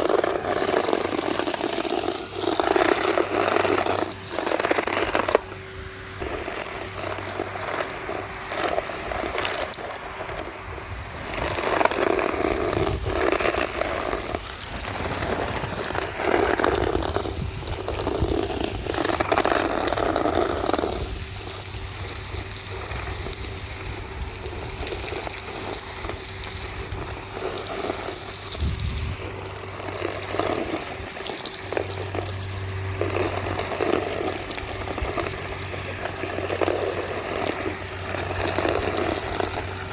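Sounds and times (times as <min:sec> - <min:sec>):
hose crunching and rattling: 0:00.0 - 0:39.9
vacuum cleaner motor hum: 0:00.0 - 0:39.9.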